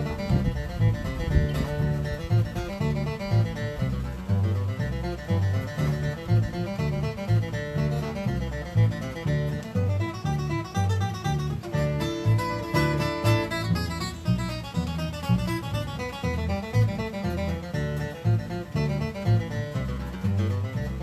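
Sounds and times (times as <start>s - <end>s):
acoustic guitar flatpicking: 0.0s - 21.0s
upright bass steady beat: 0.0s - 21.0s.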